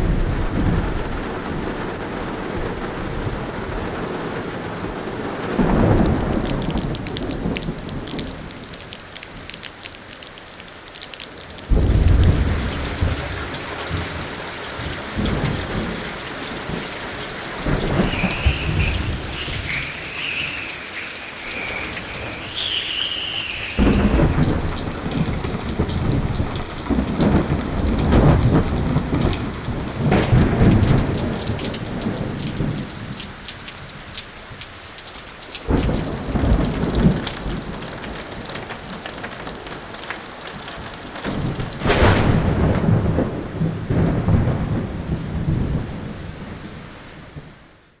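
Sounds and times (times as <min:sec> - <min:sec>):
rolling thunder: 0:00.0 - 0:08.8, 0:11.7 - 0:34.0, 0:35.6 - 0:39.6, 0:41.2 - 0:47.5
heavy rain: 0:00.0 - 0:48.0.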